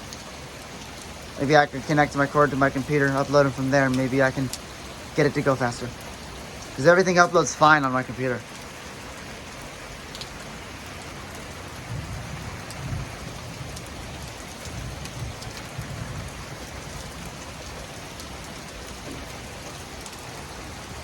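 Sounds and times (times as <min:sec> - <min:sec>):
torrential rain pouring: 0:00.0 - 0:21.0.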